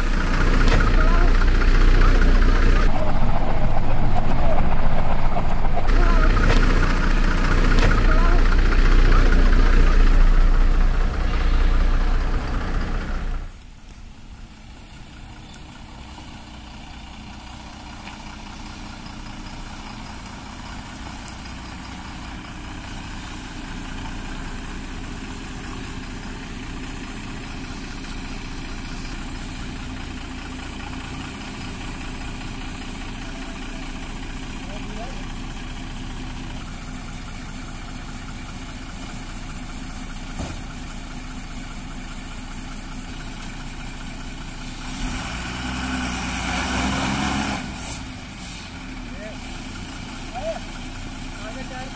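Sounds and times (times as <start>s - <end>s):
lorry diesel engine running: 0.0s - 51.9s.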